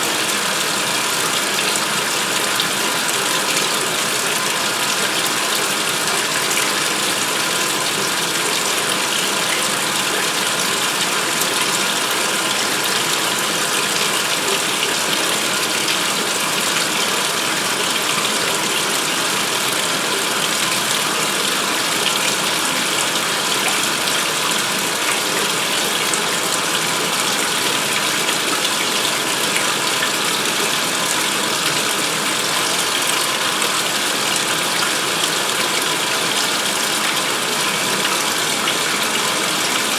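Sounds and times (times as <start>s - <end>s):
water pouring into washer tub: 0.0s - 39.9s.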